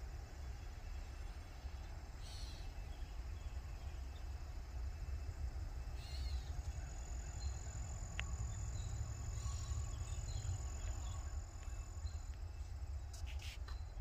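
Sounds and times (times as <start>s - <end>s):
low rumble: 0.0s - 13.1s
insects trilling: 0.0s - 14.0s.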